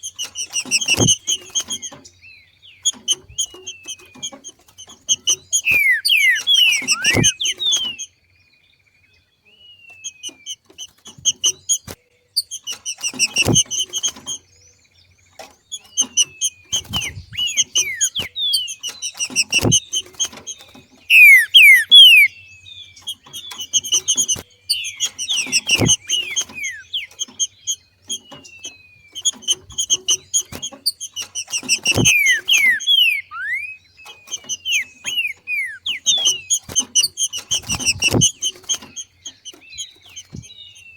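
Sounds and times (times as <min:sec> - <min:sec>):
bird chattering and whistling: 0:00.0 - 0:08.2, 0:09.8 - 0:14.5, 0:15.7 - 0:40.9.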